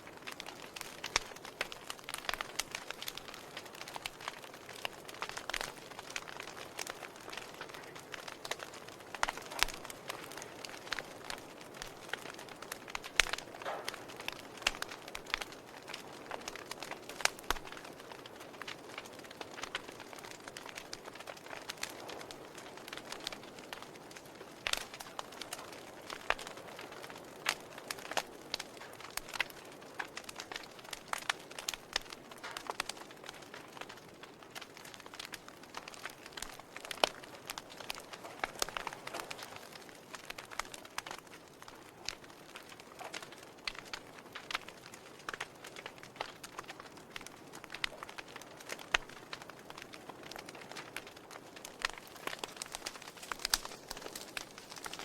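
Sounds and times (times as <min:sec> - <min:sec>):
burning logs crackling: 0:00.0 - 0:55.0.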